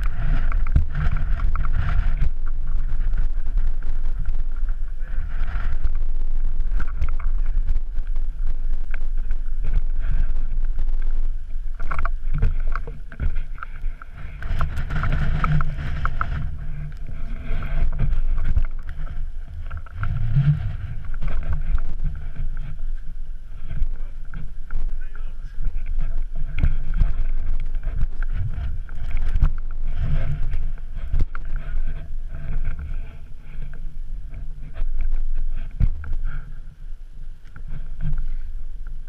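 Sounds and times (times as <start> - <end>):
boots and poles scraping rock: 0.0 - 36.6
wind rumble on microphone: 0.0 - 39.0.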